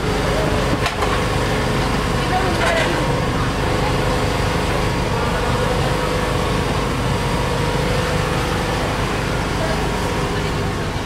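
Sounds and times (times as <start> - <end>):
low engine hum: 0.0 - 11.0
street noise: 0.0 - 11.0.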